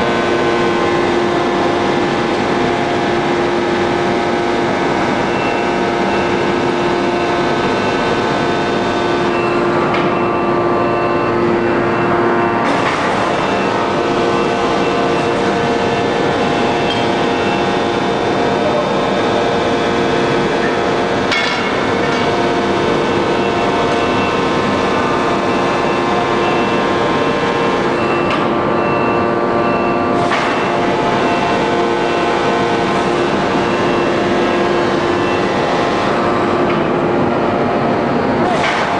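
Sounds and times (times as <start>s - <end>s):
forging press whine and hum: 0.0s - 38.9s.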